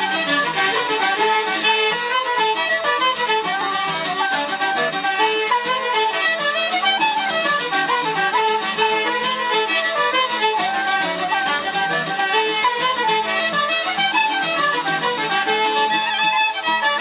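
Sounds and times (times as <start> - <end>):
fiddle melody: 0.0 - 17.0
folk band playing a jig: 0.0 - 17.0.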